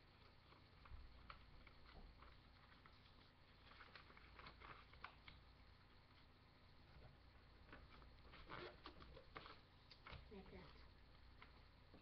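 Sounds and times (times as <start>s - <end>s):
paper crinkling and rustling: 0.2s - 5.5s, 7.6s - 12.0s.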